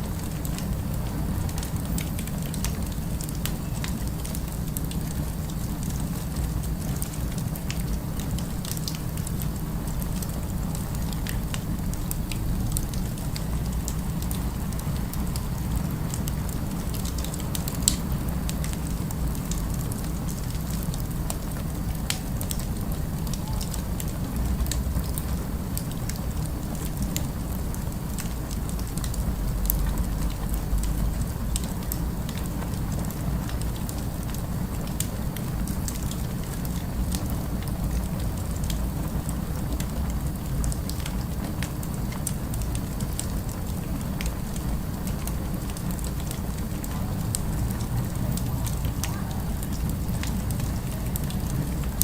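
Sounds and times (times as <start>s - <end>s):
fire crackling: 0.0s - 52.0s
low rumble of city ambience: 0.0s - 52.0s.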